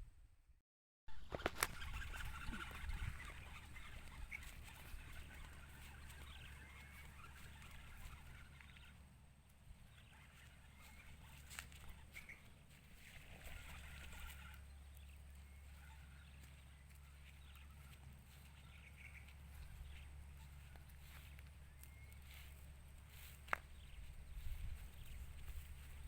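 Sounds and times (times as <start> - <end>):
steady low hum: 1.1 - 26.0.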